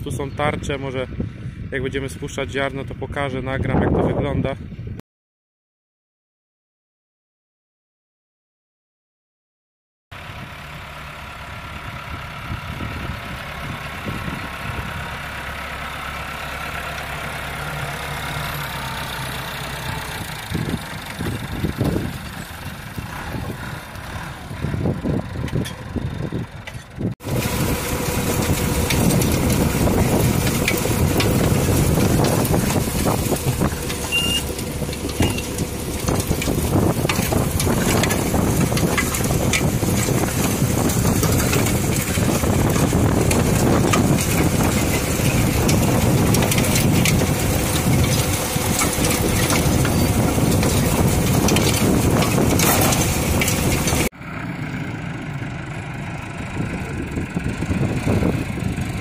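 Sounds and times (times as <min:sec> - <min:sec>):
tractor engine running: 0:10.1 - 0:59.0.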